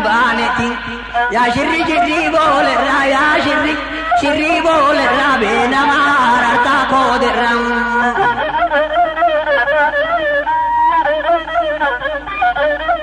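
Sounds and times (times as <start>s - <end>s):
bowed fiddle melody: 0.0s - 13.0s.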